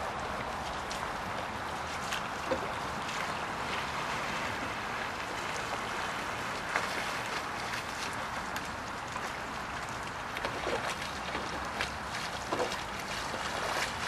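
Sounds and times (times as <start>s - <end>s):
paddle splashing in water: 0.0s - 14.0s.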